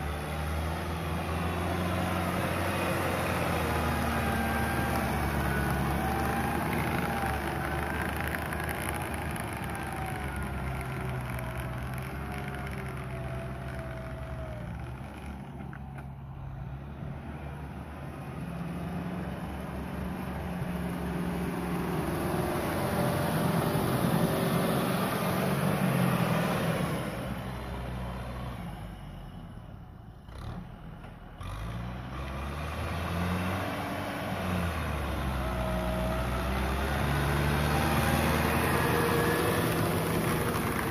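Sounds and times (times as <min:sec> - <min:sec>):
tractor diesel engine revving: 0:00.0 - 0:15.7, 0:16.3 - 0:29.3, 0:30.1 - 0:40.9.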